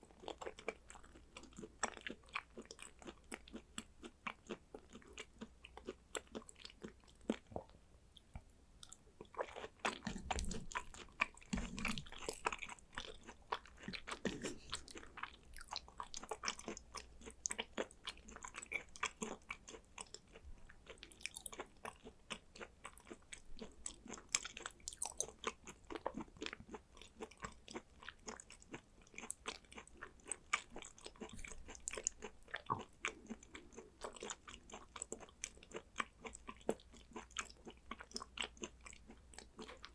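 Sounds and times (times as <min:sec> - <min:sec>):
person chewing with mouth clicks: 0:00.0 - 0:39.9.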